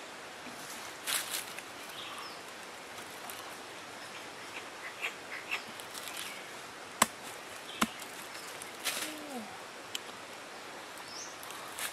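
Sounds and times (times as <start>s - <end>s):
steady outdoor hiss: 0.0s - 11.9s.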